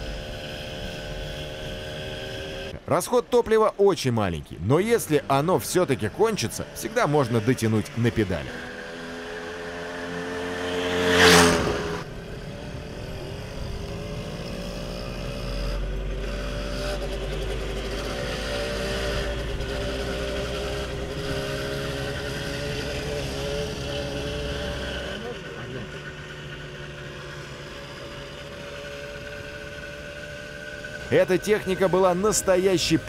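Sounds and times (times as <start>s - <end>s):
moped engine running: 0.0s - 2.8s, 5.0s - 33.0s.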